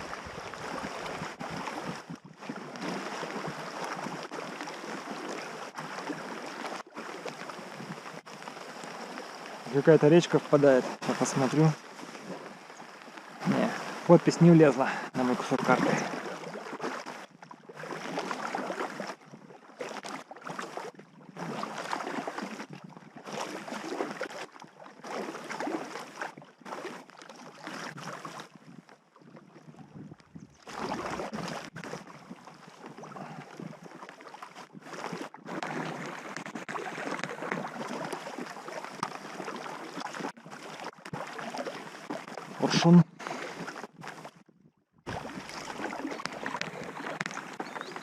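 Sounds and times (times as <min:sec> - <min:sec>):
paddle strokes splashing in water: 0:00.0 - 0:48.0.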